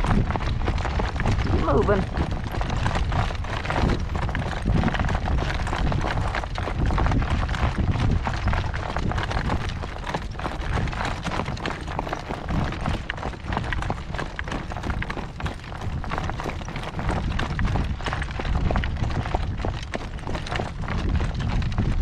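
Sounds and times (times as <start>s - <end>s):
continuous low rumble: 0.0s - 22.0s
horse hooves clip-clopping on road: 0.0s - 22.0s.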